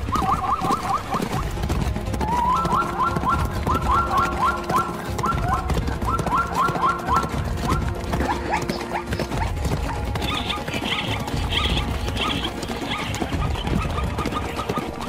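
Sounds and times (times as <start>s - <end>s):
galloping hooves: 0.0s - 15.0s
zebras calling: 0.0s - 15.0s.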